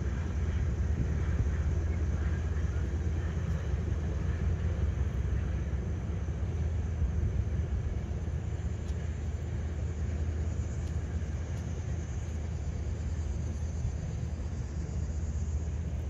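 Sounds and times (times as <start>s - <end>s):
distant train rumbling: 0.0s - 16.0s.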